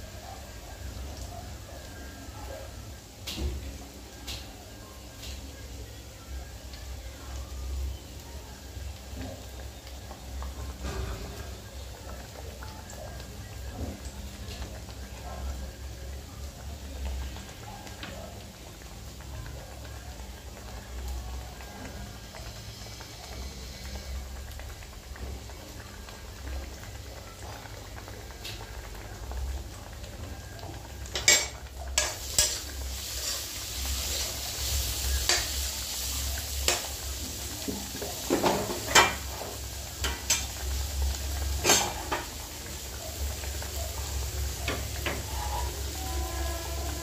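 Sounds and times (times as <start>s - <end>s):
gravy bubbling: 6.5s - 47.0s.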